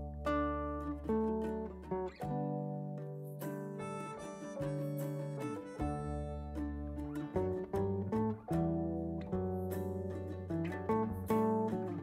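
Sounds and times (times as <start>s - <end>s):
plucked guitar-like string notes: 0.0s - 12.0s.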